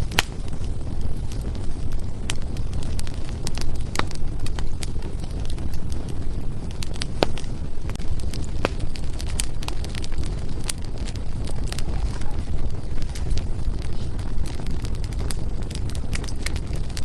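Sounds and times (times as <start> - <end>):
firewood crackling and popping: 0.0 - 17.0
low fire rumble: 0.0 - 17.0.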